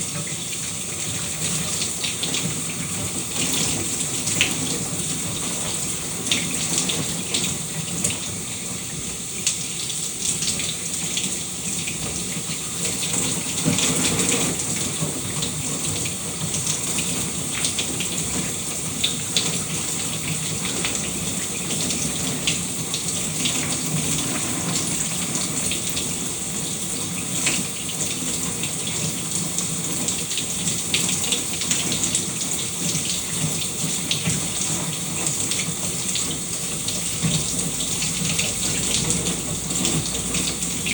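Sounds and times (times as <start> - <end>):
shower water spraying: 0.0 - 40.9.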